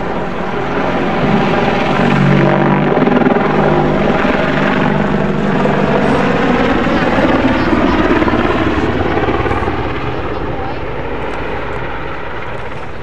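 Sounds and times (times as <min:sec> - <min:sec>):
helicopter rotor and turbine engines: 0:00.0 - 0:13.0.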